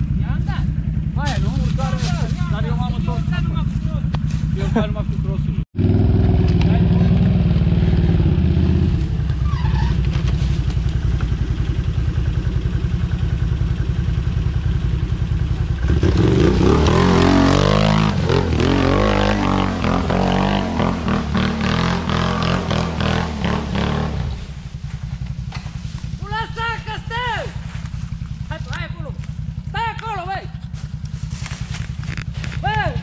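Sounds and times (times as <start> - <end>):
quad engine idling and revving: 0.0 - 33.0.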